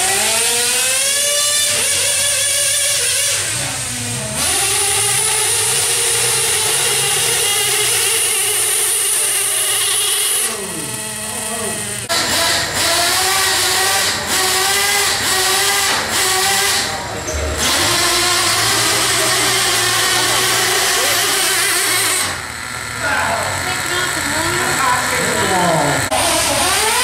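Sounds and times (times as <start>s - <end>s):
rc truck motor whining: 0.0s - 27.0s
small engine revving in blips: 0.0s - 27.0s.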